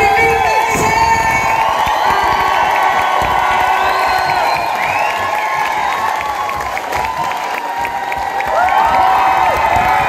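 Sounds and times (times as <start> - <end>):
audience cheering: 0.0 - 10.0.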